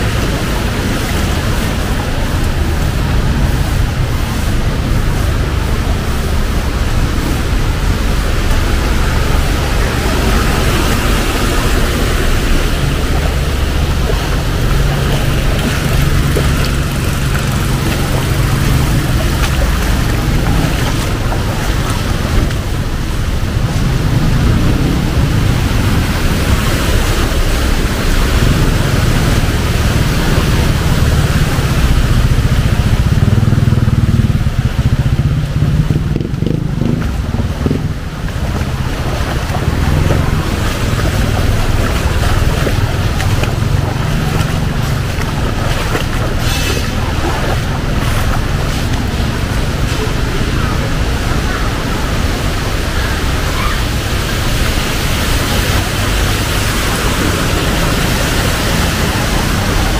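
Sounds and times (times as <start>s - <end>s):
heavy rain on street: 0.0s - 59.9s
passing traffic rumble: 0.0s - 59.9s.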